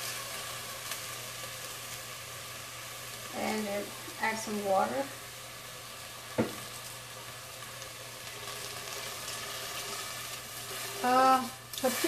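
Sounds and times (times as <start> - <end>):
lentils sizzling in oil: 0.0 - 12.0.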